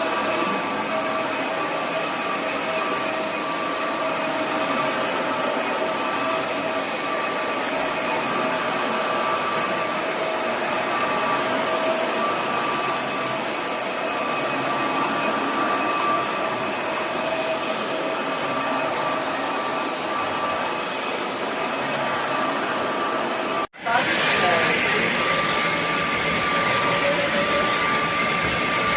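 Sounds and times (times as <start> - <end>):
vacuum cleaner air rush: 0.0 - 28.9.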